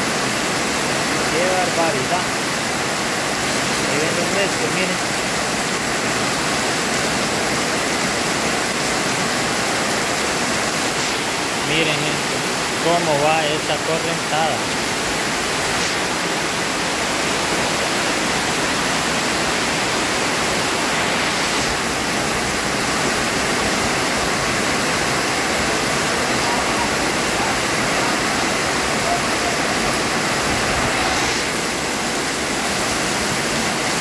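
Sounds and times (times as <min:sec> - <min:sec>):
heavy rain on puddles: 0:00.0 - 0:34.0.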